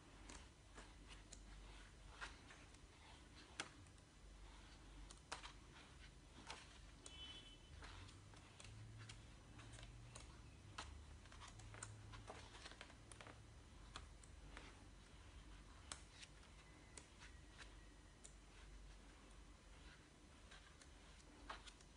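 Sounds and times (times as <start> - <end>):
book pages rustling: 0.0 - 21.9
low steady hum: 0.0 - 21.9.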